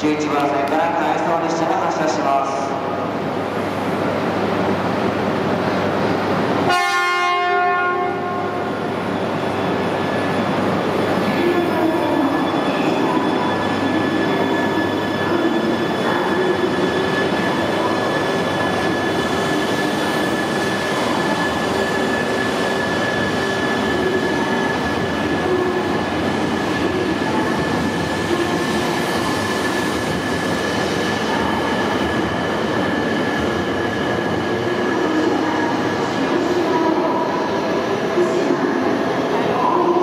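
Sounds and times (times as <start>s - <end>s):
train running past: 0.0s - 40.0s.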